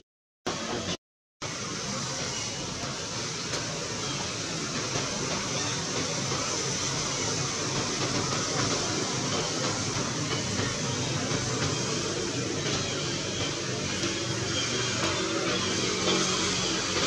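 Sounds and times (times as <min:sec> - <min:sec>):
steady background noise: 0:00.5 - 0:17.0.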